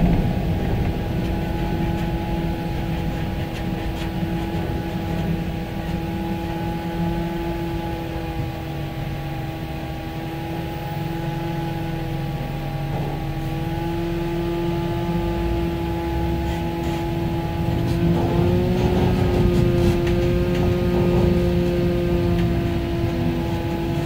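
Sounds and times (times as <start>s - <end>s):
drivetrain whine: 0.0s - 24.0s
truck engine rumble: 0.0s - 24.0s.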